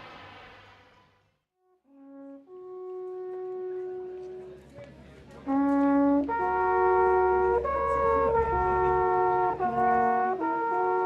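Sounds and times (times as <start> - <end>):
brass instruments playing chords: 1.8 - 11.0.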